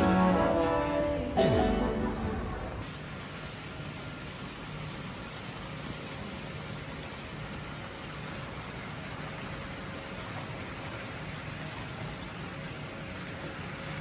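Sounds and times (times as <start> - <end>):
low steady hum: 0.0 - 14.0
fountain water splashing: 2.6 - 14.0.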